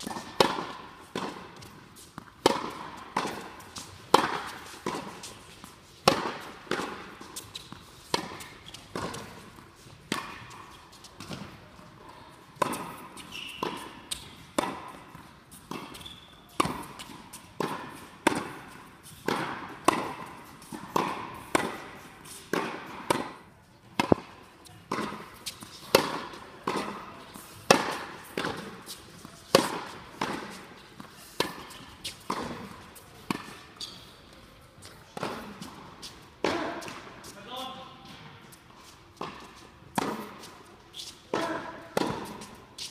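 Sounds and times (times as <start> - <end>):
balls bouncing on hard court: 0.0 - 34.1, 34.8 - 38.3, 39.2 - 40.6, 41.3 - 42.9
tennis balls struck by rackets: 0.0 - 38.3, 39.2 - 42.9.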